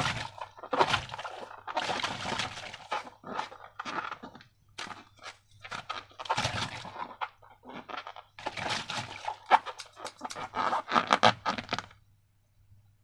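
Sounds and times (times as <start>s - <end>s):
slime squishing wet crackling: 0.0s - 11.9s.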